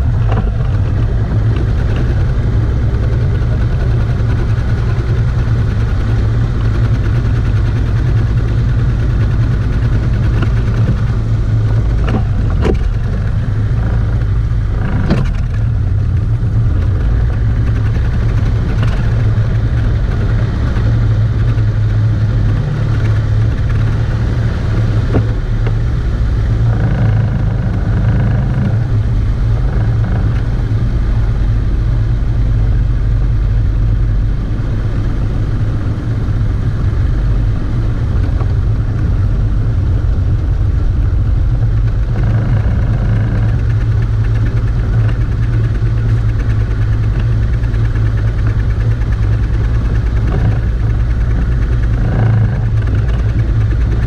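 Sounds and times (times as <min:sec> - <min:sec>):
outboard motor droning: 0:00.0 - 0:54.0.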